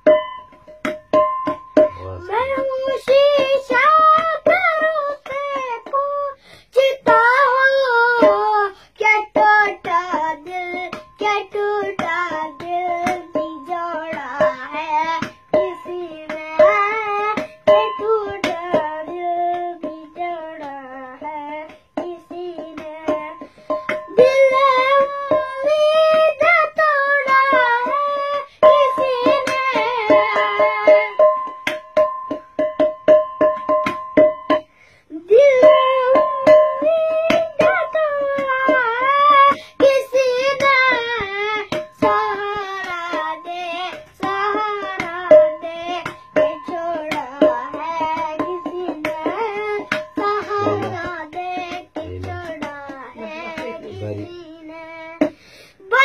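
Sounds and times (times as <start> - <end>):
hand beating a steel container: 0.0 - 6.0, 6.9 - 56.0
boy singing: 1.5 - 31.8, 35.1 - 56.0.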